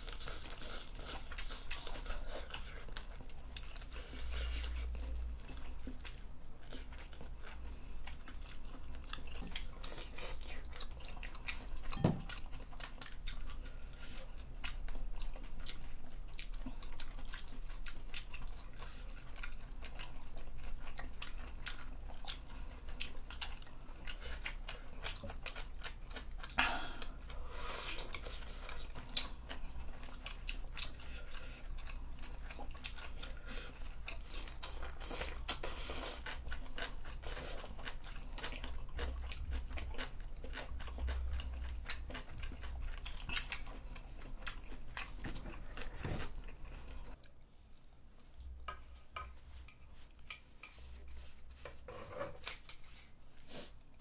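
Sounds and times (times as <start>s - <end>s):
people chewing and crunching food: 0.0s - 54.0s.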